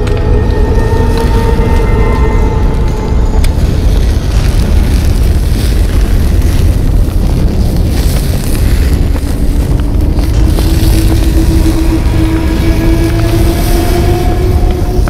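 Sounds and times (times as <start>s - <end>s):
grill fire rumbling: 0.0s - 15.0s.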